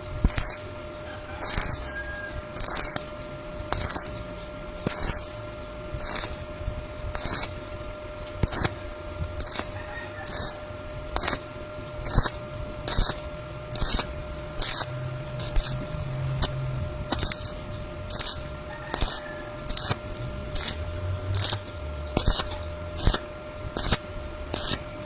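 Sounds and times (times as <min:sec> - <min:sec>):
welding arc hissing in bursts: 0:00.0 - 0:25.0.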